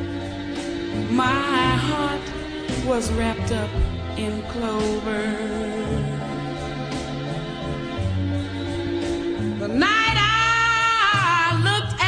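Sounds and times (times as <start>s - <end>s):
song with held sung notes: 0.0s - 12.0s
steady bass line: 0.0s - 12.0s.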